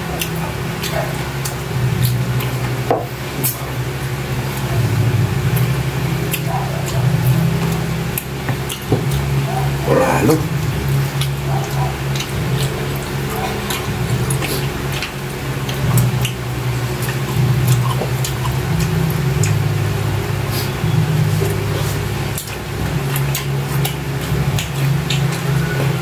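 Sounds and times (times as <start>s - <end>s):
people chewing: 0.0s - 26.0s
steady low hum: 0.0s - 26.0s.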